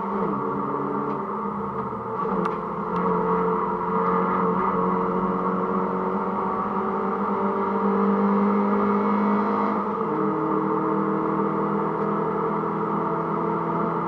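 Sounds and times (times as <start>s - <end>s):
car engine under load: 0.0s - 14.0s.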